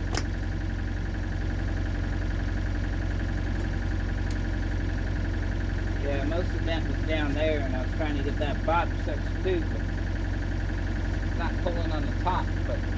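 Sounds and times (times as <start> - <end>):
diesel engine humming: 0.0 - 12.9.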